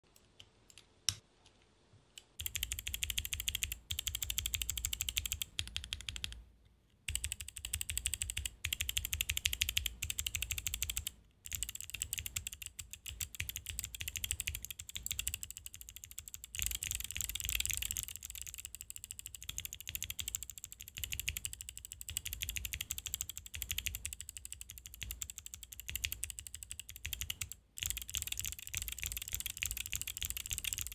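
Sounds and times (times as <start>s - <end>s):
rapid mechanical clicking: 2.4s - 6.4s, 7.1s - 30.9s.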